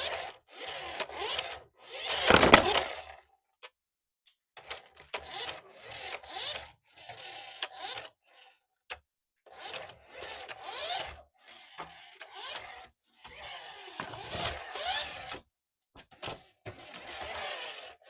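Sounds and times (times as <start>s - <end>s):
toy car motor whirring: 0.0s - 3.3s, 4.6s - 18.0s.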